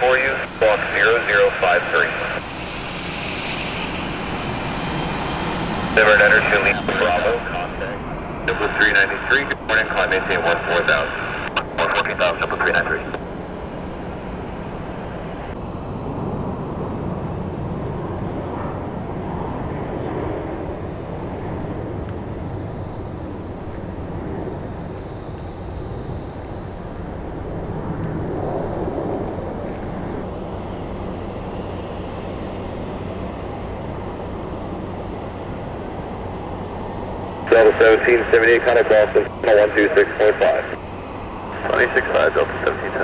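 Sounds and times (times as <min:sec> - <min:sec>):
jet engine rush: 0:00.0 - 0:43.0
low hum: 0:00.0 - 0:43.0.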